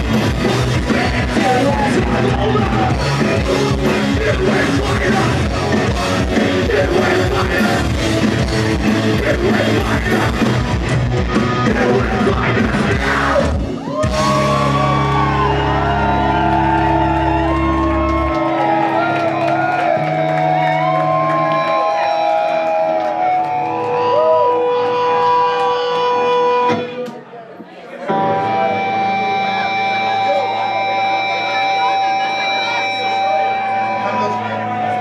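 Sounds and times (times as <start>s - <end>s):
crowd shouting and whooping: 0.0s - 26.8s, 28.1s - 35.0s
guitar feedback: 0.0s - 27.1s, 28.1s - 35.0s
punk band playing: 0.0s - 27.1s, 28.1s - 35.0s.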